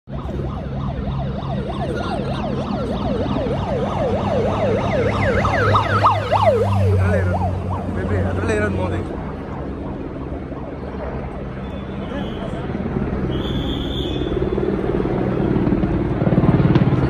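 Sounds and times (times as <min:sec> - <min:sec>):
higher-pitched siren: 0:00.1 - 0:16.7
sirens yelping: 0:00.1 - 0:17.0.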